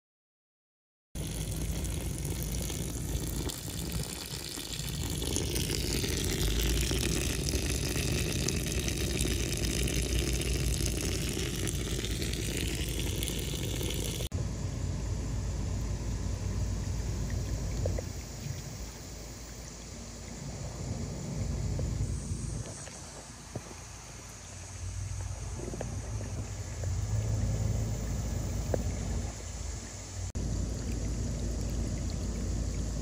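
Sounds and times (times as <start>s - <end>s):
hose water splashing into pond: 1.2s - 14.4s, 16.1s - 33.0s.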